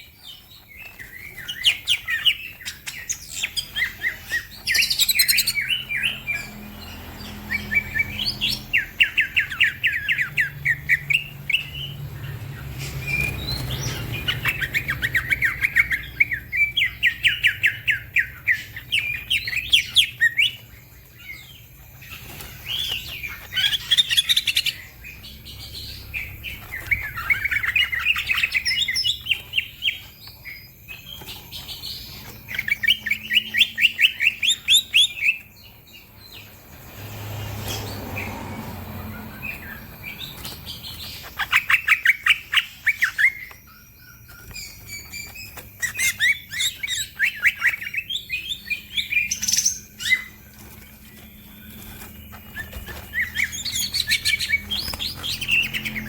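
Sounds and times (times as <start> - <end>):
bird singing chattering phrases: 0.0 - 36.9, 37.5 - 56.0.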